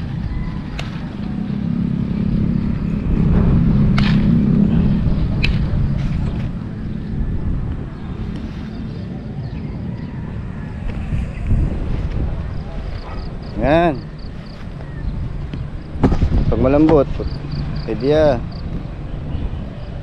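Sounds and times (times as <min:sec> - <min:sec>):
vehicle engine rumble passing: 0:00.0 - 0:20.0.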